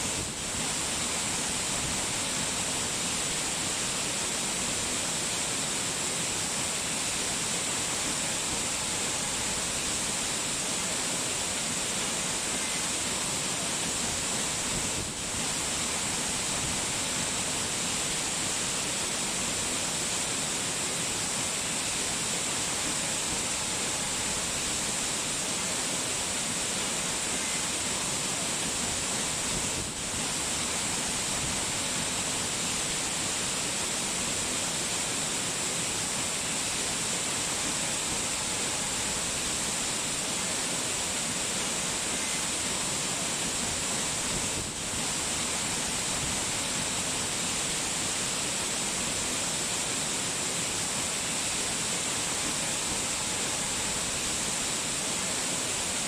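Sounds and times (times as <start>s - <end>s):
hiss of falling water: 0.0s - 56.0s.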